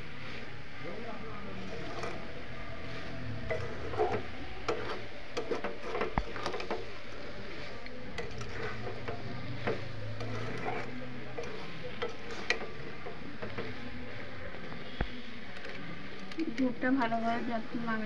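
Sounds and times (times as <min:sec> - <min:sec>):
metal spatula scraping a pan: 0:01.4 - 0:17.9.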